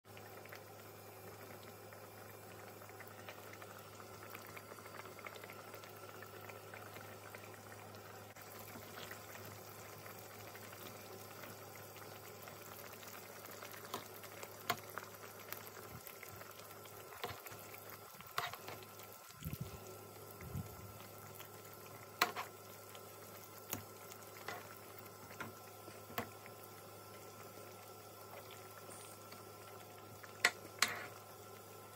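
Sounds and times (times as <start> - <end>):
sauce bubbling in a pan: 0.1 - 31.9.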